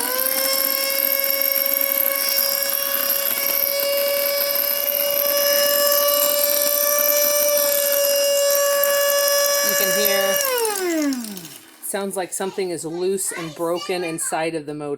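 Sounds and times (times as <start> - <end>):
air pump whining: 0.0 - 13.7.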